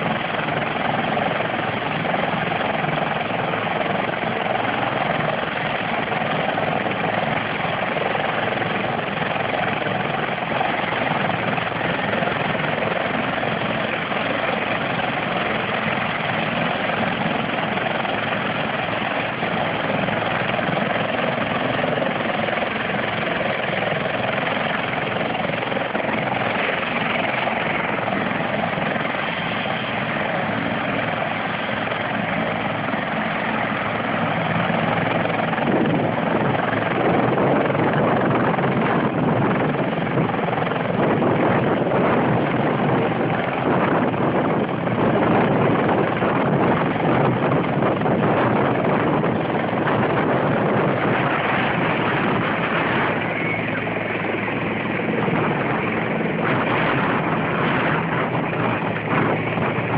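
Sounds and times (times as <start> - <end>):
helicopter running: 0.0 - 59.9.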